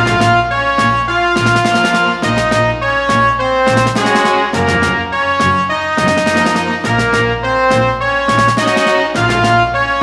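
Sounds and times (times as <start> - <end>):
upbeat music with brass melody: 0.0 - 10.0.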